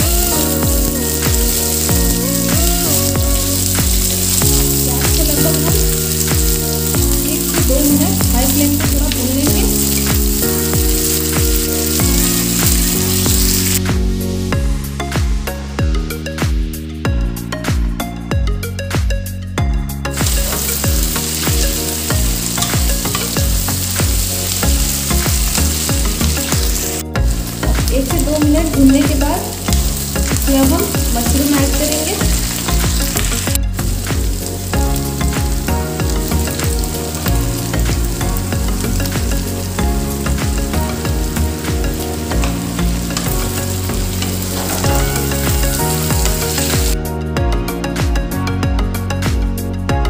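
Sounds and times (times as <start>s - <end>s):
onions sizzling in hot oil: 0.0s - 13.8s, 20.1s - 47.0s.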